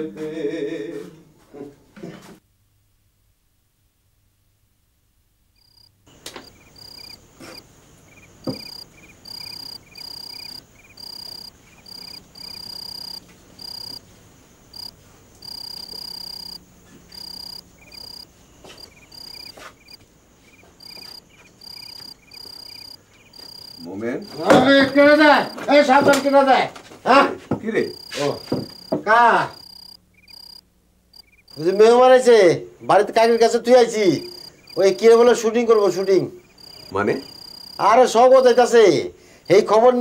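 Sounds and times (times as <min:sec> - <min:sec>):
crickets chirping: 0:05.5 - 0:40.0.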